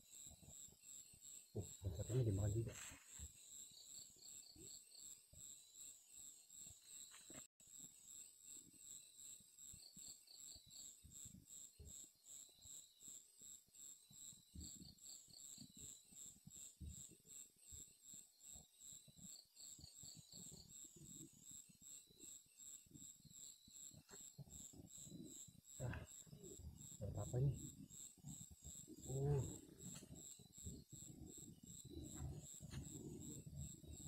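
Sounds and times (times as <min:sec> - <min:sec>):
insects high-pitched trill: 0:00.0 - 0:34.0
low insect chirp: 0:00.0 - 0:34.0.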